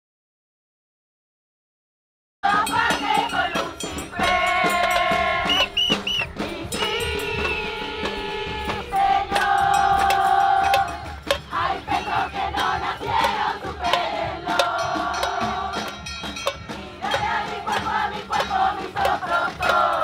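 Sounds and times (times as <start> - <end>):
group singing a chant: 2.4 - 20.0
hand drums: 2.4 - 20.0
rattling percussion: 2.4 - 20.0.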